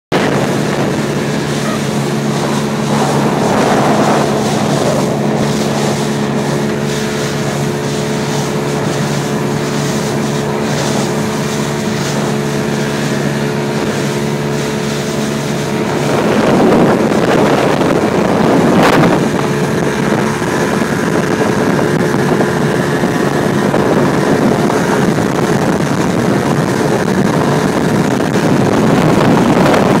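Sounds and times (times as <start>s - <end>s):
boat motor running: 0.1s - 30.0s
rushing wind and water: 0.1s - 30.0s
wind buffeting microphone: 0.1s - 30.0s.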